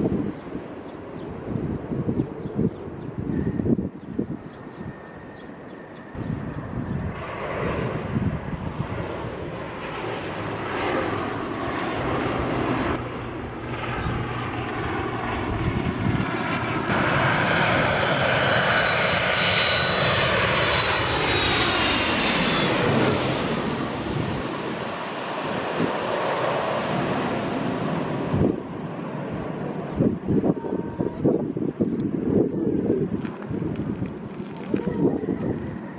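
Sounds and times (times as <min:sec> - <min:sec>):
airliner engine noise overhead: 0:00.0 - 0:35.9
jet engine whine: 0:00.0 - 0:35.9.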